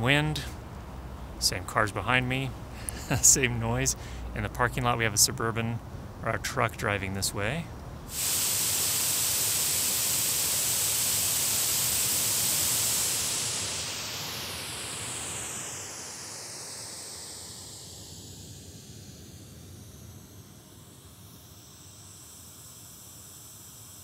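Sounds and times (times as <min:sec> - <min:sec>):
white noise from speaker: 0:00.0 - 0:24.0.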